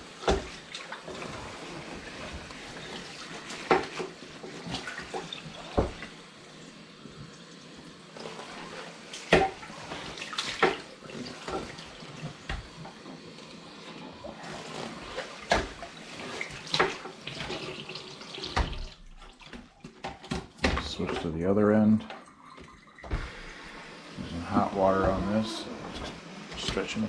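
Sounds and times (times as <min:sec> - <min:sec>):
tap water running into sink: 0:00.0 - 0:06.4, 0:07.1 - 0:27.0.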